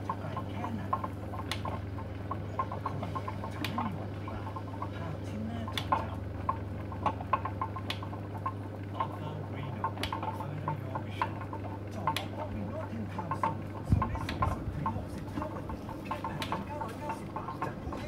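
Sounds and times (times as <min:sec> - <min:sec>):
potter's wheel humming: 0:00.0 - 0:18.0
light clicks and ticks: 0:00.1 - 0:18.0.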